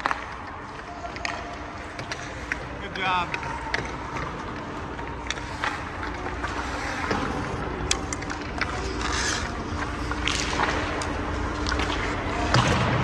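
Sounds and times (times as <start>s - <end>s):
sticks and pucks clicking: 0.0s - 12.6s
skate blades scraping ice: 0.0s - 12.8s.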